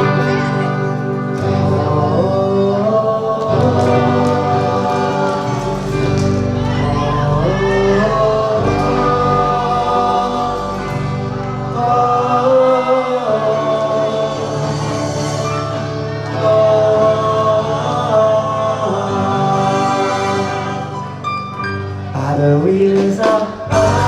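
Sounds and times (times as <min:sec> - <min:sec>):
people singing long notes: 0:00.0 - 0:21.2, 0:22.2 - 0:24.0
steady bass line: 0:00.0 - 0:22.4, 0:23.5 - 0:24.0
live band playing pop song: 0:00.0 - 0:24.0.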